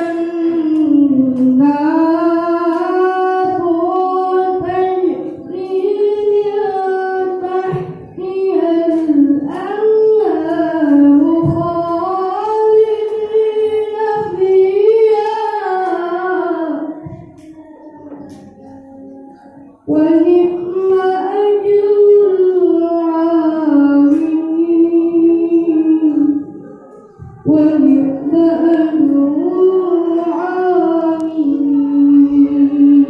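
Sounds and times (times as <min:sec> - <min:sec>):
boy reciting melodically: 0:00.0 - 0:33.0.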